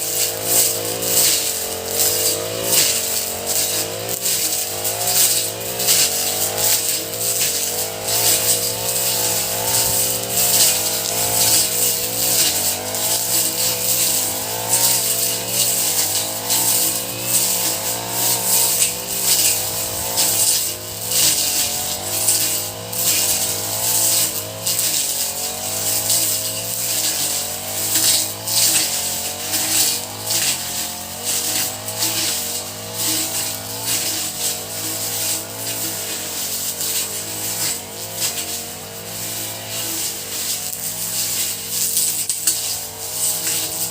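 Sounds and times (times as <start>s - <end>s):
brush cutter engine running: 0.0s - 43.9s.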